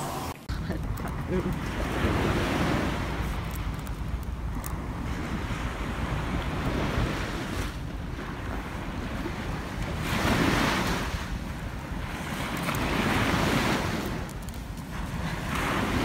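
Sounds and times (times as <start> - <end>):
ocean surf washing up beach: 0.0 - 16.0
wind rumble on microphone: 0.5 - 16.0.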